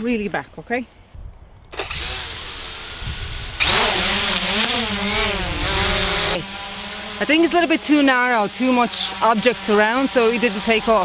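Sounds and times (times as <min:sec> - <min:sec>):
drone motors whining: 0:01.7 - 0:11.0.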